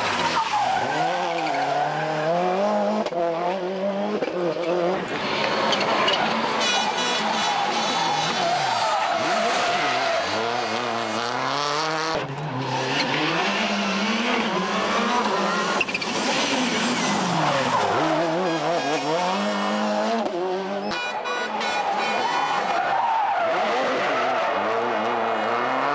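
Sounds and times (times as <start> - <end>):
rally car engines revving hard: 0.0 - 25.9.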